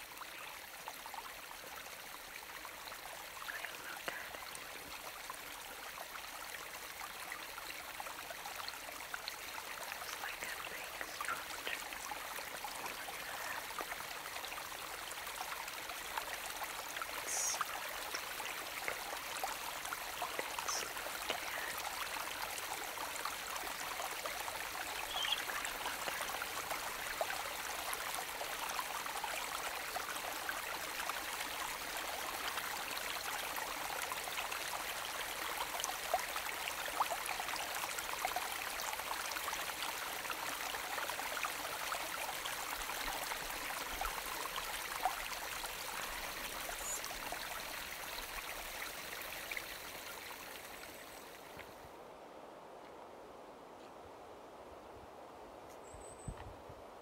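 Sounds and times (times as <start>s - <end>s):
brook babbling: 0.0s - 56.3s.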